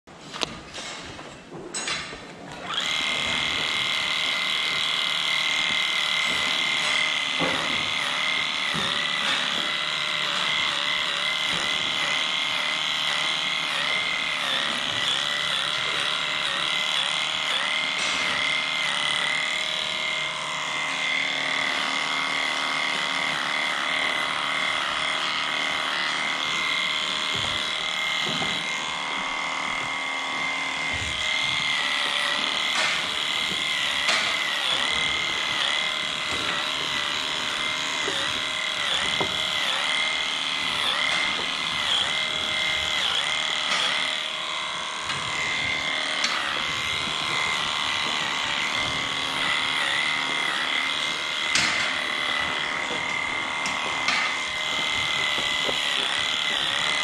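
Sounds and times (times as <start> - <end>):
angle grinder whining: 1.8 - 57.0.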